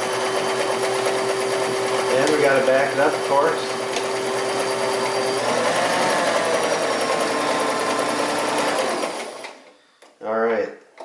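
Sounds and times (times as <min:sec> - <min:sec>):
sewing machine running: 0:00.0 - 0:09.7.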